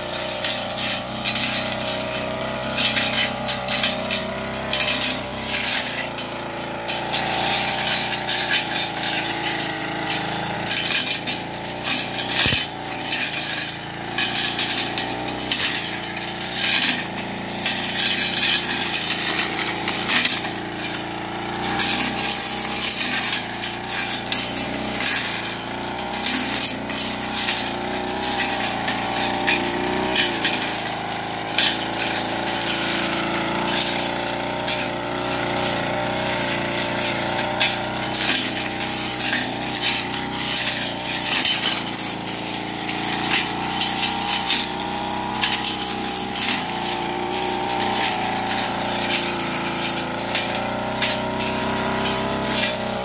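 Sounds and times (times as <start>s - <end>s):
brush cutter engine running: 0.0s - 53.0s
cutting head striking stems: 0.0s - 53.0s.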